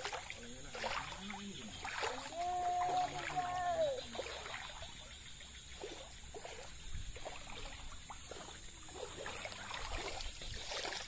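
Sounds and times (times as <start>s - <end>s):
faint water gurgles: 0.0s - 11.0s
shallow water flowing: 0.0s - 11.0s.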